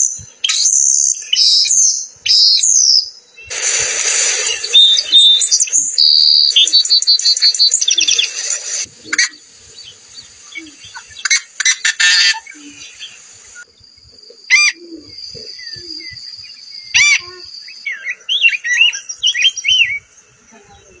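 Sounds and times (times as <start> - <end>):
blackbird harsh buzzy song: 0.0 - 21.0
loud sharp bird calls: 0.0 - 21.0
warbled whistled songbird phrases: 0.0 - 21.0.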